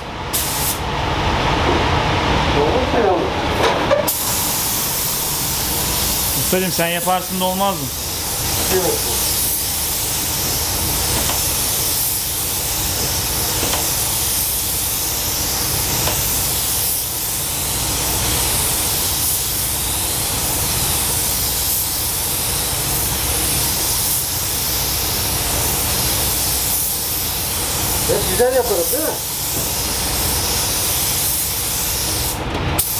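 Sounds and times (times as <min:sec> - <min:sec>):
paint spray gun hissing: 0:00.3 - 0:00.8, 0:04.1 - 0:32.9.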